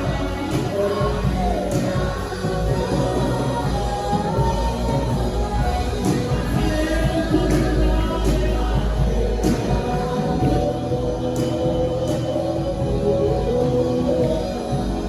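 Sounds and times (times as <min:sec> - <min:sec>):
gospel group singing with band: 0:00.0 - 0:15.0.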